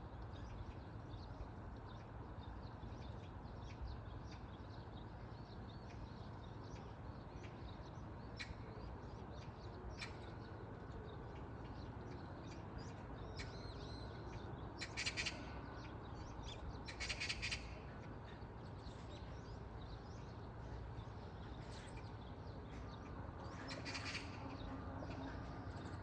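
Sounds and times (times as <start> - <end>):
birds chirping: 0.0 - 26.0
harsh rapid bird calls: 3.0 - 26.0.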